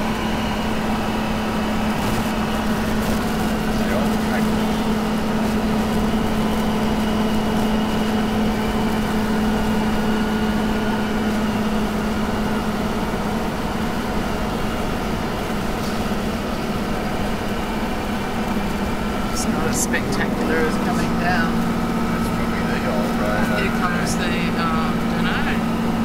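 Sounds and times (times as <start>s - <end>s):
engine drone in car cabin: 0.0s - 26.0s
road noise: 0.0s - 26.0s.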